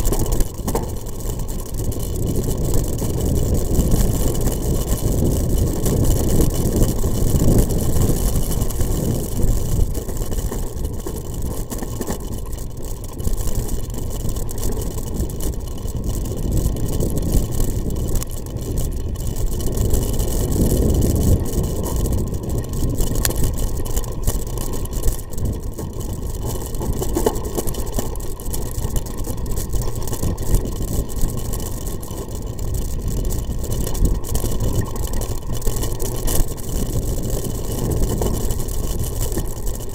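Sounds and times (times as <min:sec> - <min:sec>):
off-road vehicle engine running: 0:00.0 - 0:39.9
wind rumble: 0:00.0 - 0:39.9.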